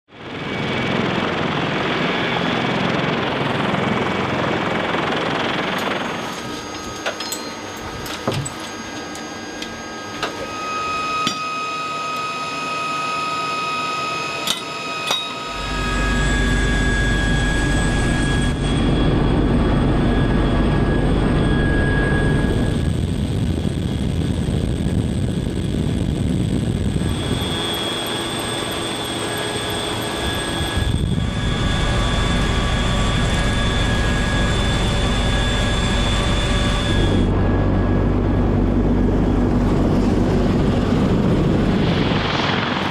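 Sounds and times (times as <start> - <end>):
helicopter rumble from cabin: 0.1 - 42.9
helicopter turbine whine: 0.1 - 42.9.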